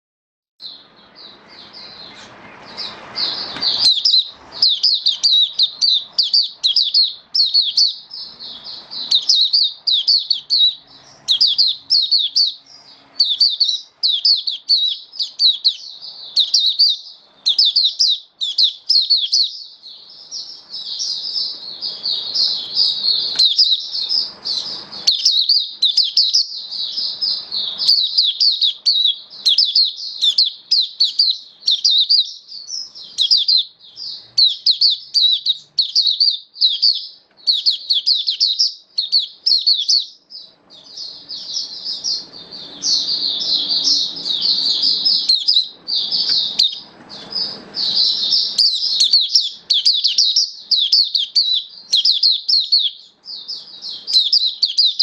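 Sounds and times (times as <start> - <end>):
bird twittering song: 0.6 - 55.0.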